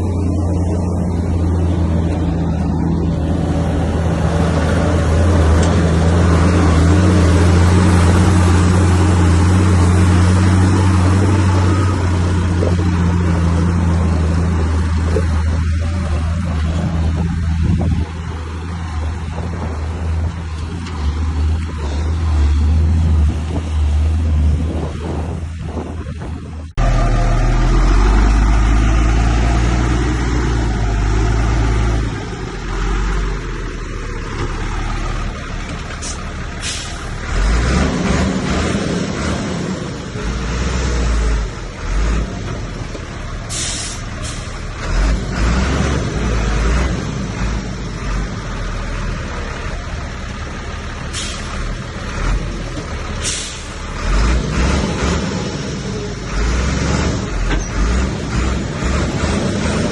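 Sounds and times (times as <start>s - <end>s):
diesel machinery engine working: 0.0s - 59.9s.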